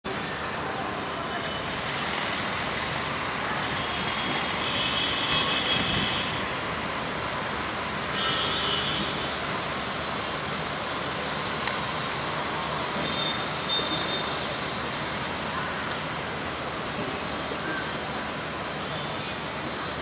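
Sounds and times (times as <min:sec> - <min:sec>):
town traffic noise: 0:00.0 - 0:20.0.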